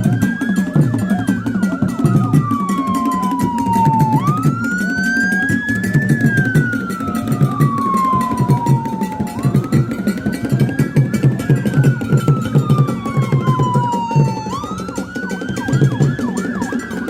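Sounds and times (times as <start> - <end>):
music with low busy beat: 0.0 - 17.0
wailing siren: 0.0 - 17.0.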